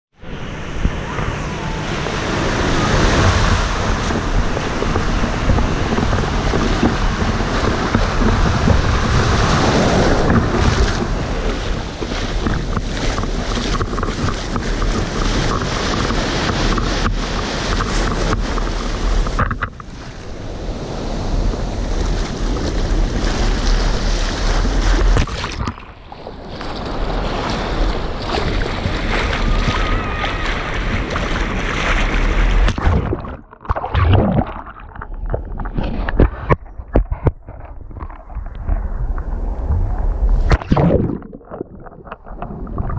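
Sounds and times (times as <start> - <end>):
sea waves washing: 0.2 - 42.9
wind buffeting microphone: 0.2 - 42.9.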